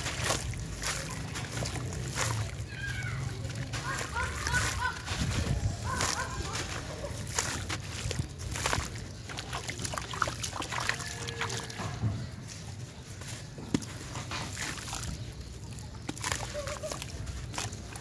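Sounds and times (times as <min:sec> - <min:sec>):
sand-cement chunks crumbling: 0:00.0 - 0:18.0
wet slurry sloshing: 0:00.0 - 0:18.0.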